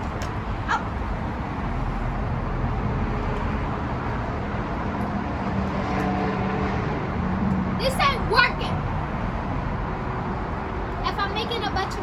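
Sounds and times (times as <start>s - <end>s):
cars passing: 0.0s - 12.0s
engine hum: 0.0s - 12.0s.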